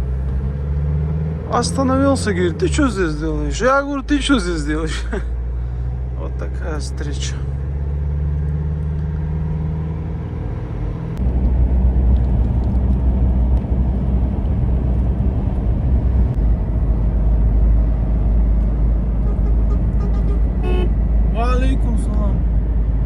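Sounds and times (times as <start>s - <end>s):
van driving low rumble: 0.0s - 23.0s
van engine hum: 0.0s - 23.0s.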